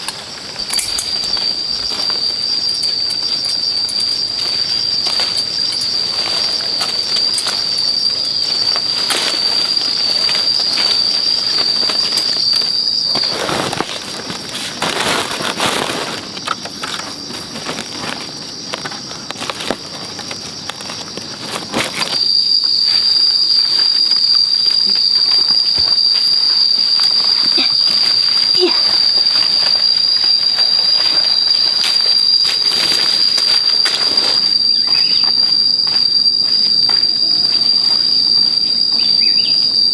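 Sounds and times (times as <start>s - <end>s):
rustling and handling noises: 0.0s - 36.1s
cicadas buzzing: 0.0s - 39.9s.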